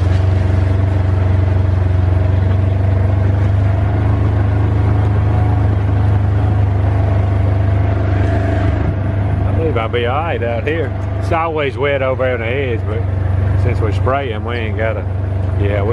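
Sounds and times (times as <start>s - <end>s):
vehicle engine humming: 0.0s - 15.9s.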